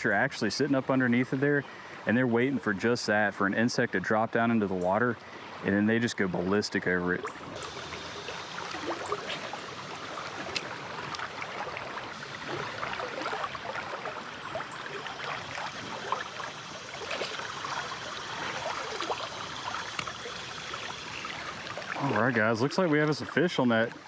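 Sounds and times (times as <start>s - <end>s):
creek water running: 0.0s - 24.0s.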